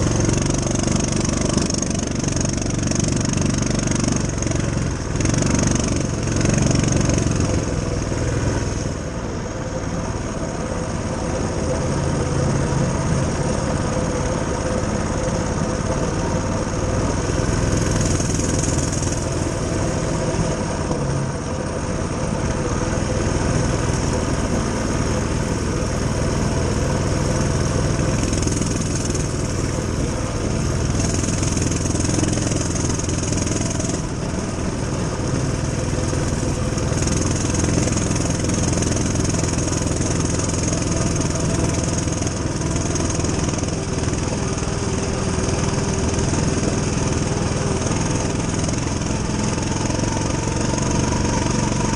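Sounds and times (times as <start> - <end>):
mini bike engine running: 0.0 - 51.9.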